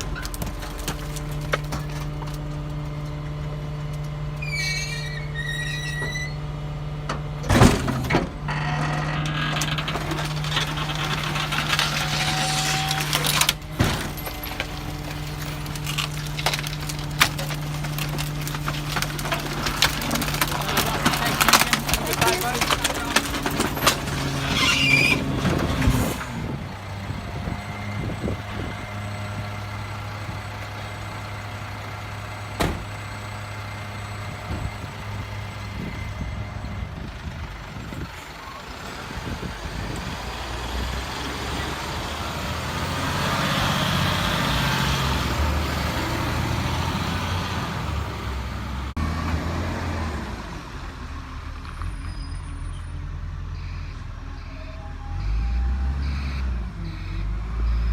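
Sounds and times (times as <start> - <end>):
garbage truck diesel engine running: 0.0 - 57.9.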